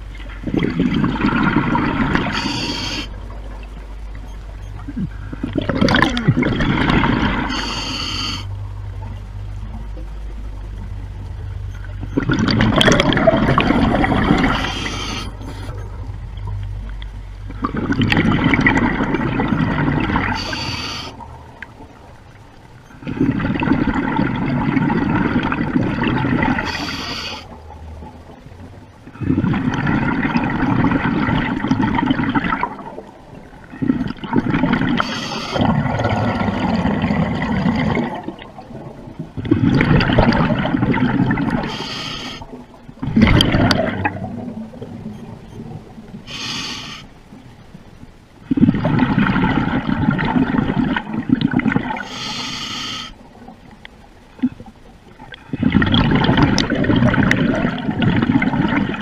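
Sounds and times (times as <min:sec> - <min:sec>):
underwater bubbling and rushing water: 0:00.0 - 0:59.0.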